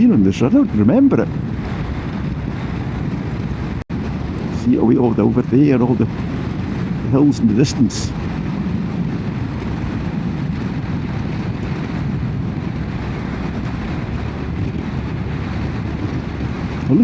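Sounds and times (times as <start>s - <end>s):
motorcycle engine and wind rumble: 0.0s - 17.0s.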